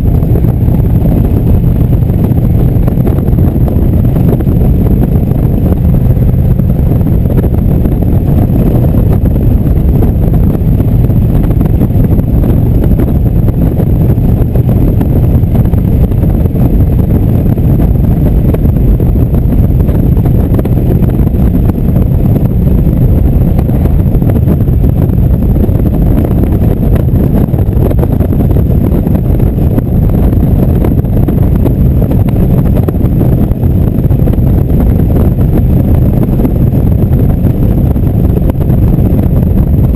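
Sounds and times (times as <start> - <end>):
motorcycle engine cruising: 0.0 - 39.9
wind on microphone: 0.0 - 39.9.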